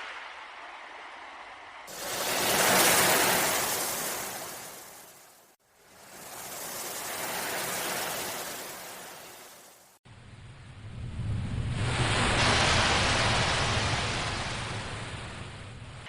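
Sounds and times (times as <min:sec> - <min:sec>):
ocean waves washing in: 0:00.0 - 0:16.0.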